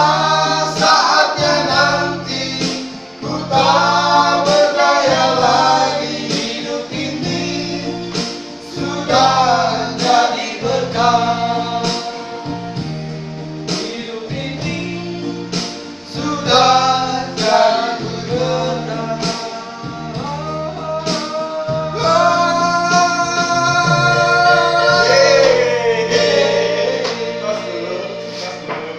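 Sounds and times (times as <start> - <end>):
keyboard accompaniment: 0.0 - 28.9
men singing gospel: 0.0 - 28.9.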